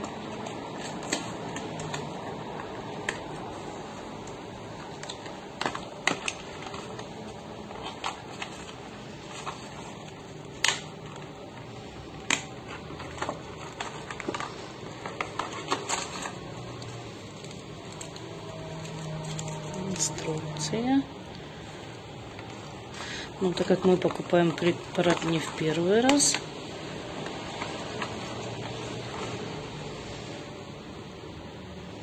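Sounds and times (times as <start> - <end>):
packaging clicks and crinkles: 0.0 - 30.0
room noise: 0.0 - 32.0.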